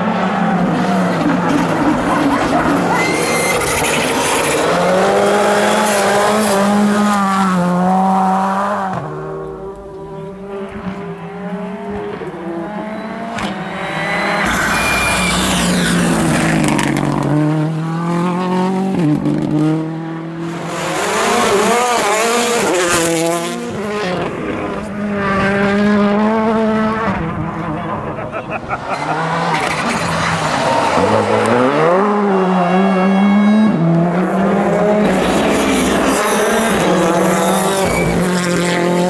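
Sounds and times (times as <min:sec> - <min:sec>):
rally car engine revving hard: 0:00.0 - 0:39.0.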